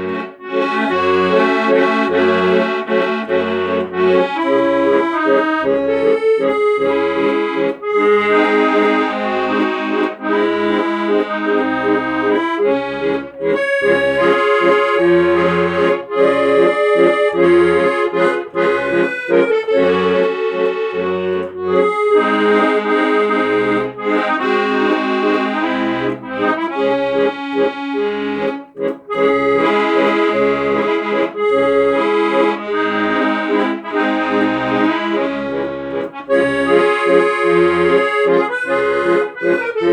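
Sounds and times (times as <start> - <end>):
accordion bass notes: 0.0 - 39.9
accordion melody: 0.0 - 39.9.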